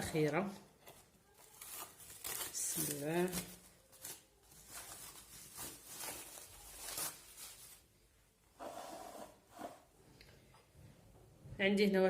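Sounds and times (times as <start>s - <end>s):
rubbing and rustling in kitchen: 0.0s - 10.0s.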